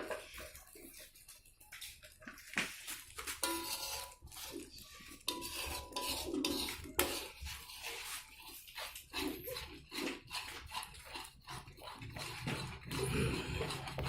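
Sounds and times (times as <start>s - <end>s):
utensil stirring and scraping pot: 0.0s - 14.0s.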